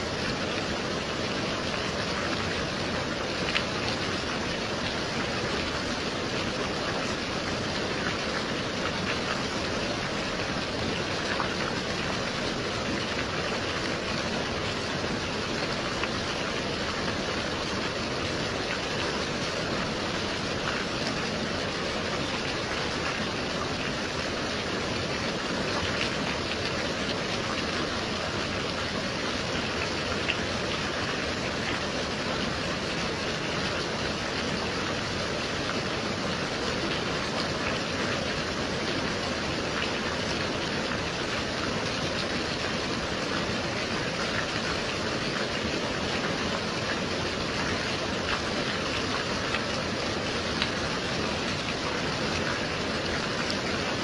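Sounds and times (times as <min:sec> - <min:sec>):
steady gentle rain: 0:00.0 - 0:54.0.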